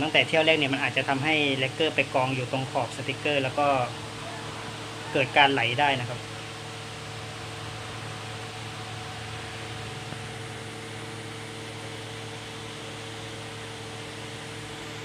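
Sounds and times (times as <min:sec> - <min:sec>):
ventilation fan running: 0:00.0 - 0:15.0.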